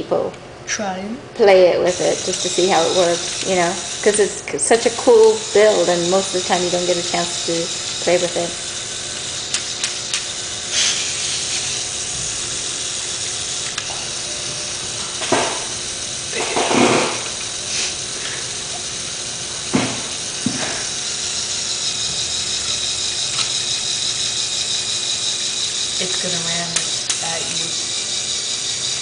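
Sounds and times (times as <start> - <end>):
electric motor whirring: 1.5 - 29.0.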